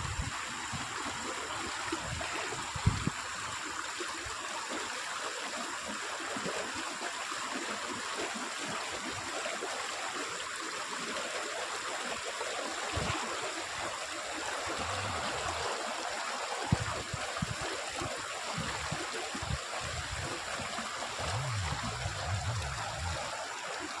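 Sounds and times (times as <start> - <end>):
water flowing and trickling: 0.0 - 24.0.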